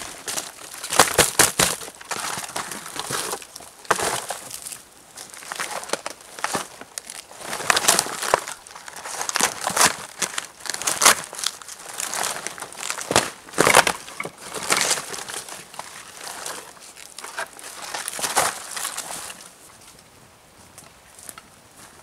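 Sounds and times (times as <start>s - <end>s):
bark crackling and tearing: 0.0s - 19.6s.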